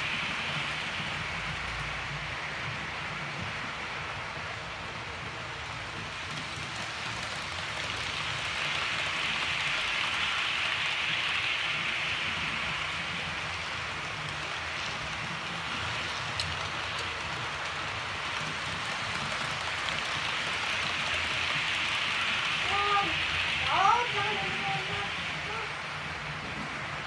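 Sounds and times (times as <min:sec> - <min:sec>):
model train motors whirring: 0:00.0 - 0:27.0.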